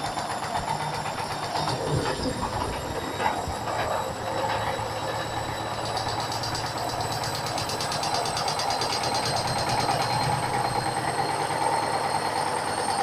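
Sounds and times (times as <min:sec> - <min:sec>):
rapid regular rattle: 0:00.0 - 0:10.9.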